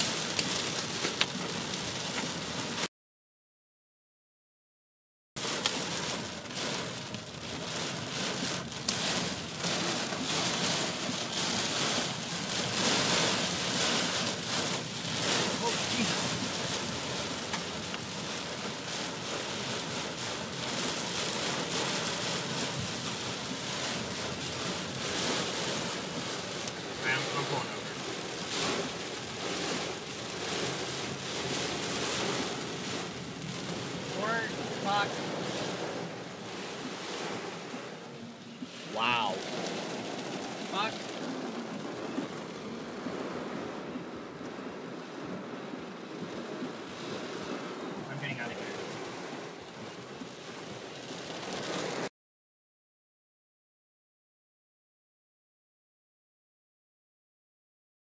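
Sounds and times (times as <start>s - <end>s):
heavy rain on car roof: 0.0s - 2.9s, 5.4s - 52.1s.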